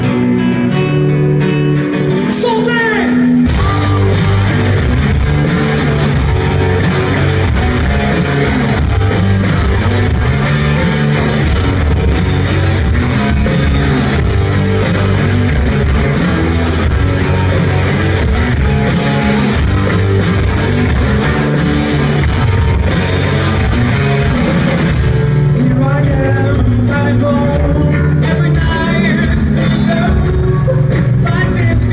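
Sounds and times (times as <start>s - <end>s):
rock band playing: 0.0s - 31.9s.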